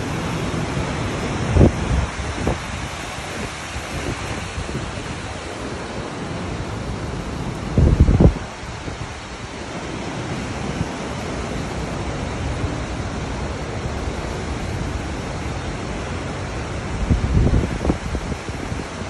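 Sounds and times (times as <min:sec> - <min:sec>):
river rushing over rocks: 0:00.0 - 0:19.0
wind buffeting microphone: 0:00.0 - 0:19.0.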